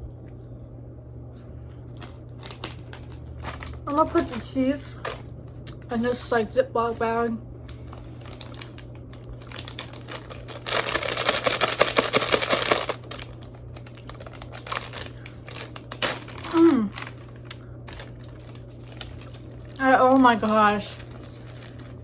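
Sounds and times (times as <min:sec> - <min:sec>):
plastic bag crinkling: 0:01.9 - 0:22.0.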